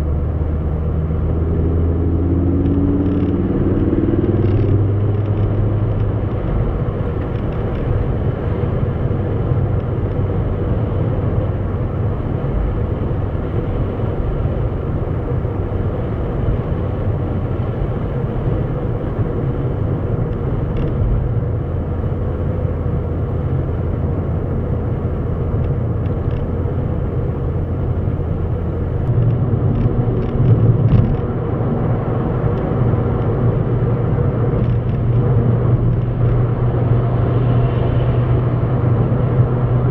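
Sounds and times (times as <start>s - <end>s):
motor vehicle rumbling: 0.0s - 39.9s.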